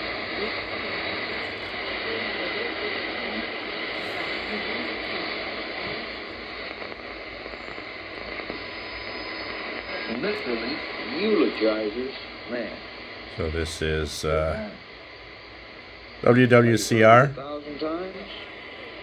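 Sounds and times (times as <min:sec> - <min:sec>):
shortwave radio static and hiss: 0:00.0 - 0:19.0
faint broadcast voice: 0:00.1 - 0:07.6, 0:09.6 - 0:14.9, 0:16.2 - 0:19.0.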